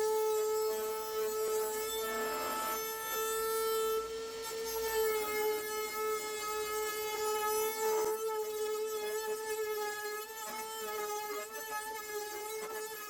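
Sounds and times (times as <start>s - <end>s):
bit cutting wood: 0.0s - 13.0s.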